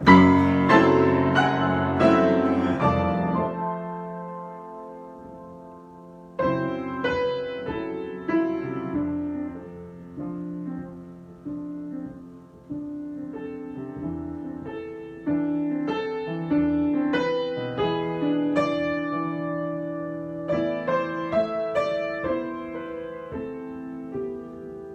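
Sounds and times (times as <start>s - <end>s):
solo piano: 0.0s - 24.9s.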